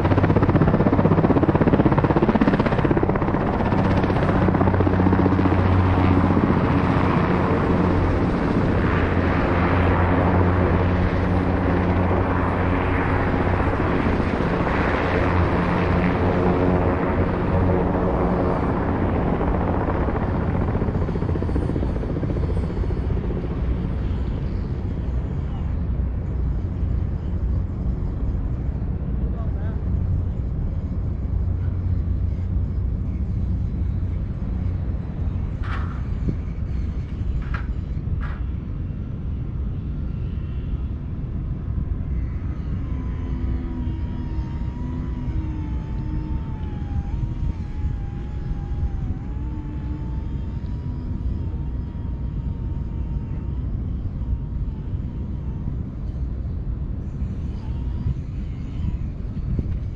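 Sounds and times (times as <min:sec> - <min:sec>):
aircraft engine whine: 0:00.0 - 0:59.9
helicopter rotor beating: 0:00.0 - 0:59.9
steady low rumble: 0:00.0 - 0:59.9.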